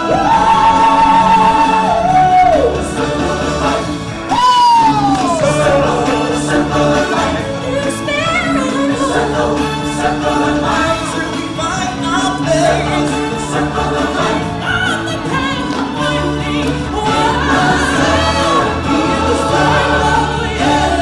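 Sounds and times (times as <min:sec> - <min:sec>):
band playing: 0:00.0 - 0:21.0
choir singing: 0:00.0 - 0:21.0.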